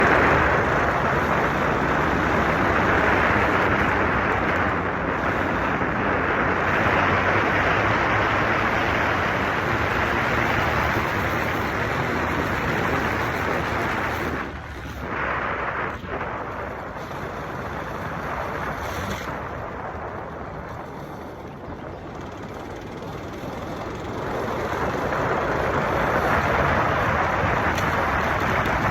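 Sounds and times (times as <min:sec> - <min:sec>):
motorcycle engine running: 0:00.0 - 0:28.9
wind rushing over microphone: 0:00.0 - 0:28.9.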